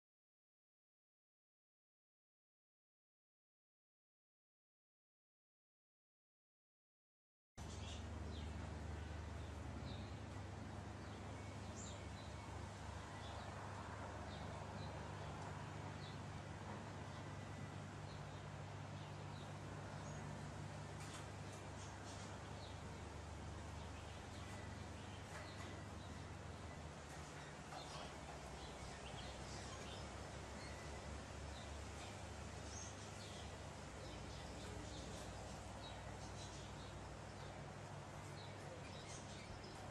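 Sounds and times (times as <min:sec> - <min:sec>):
low hum and hiss: 0:07.6 - 0:39.9.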